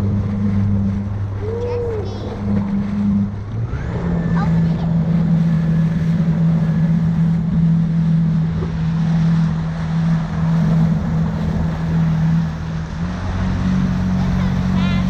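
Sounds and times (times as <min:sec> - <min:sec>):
jet ski engine droning: 0:00.0 - 0:15.0
rushing water: 0:00.0 - 0:15.0.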